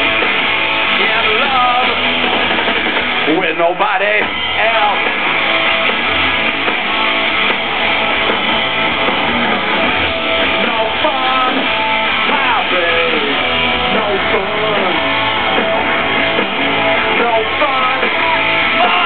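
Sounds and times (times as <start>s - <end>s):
live rock band playing: 0.0s - 19.0s
strummed electric guitar: 0.0s - 19.0s.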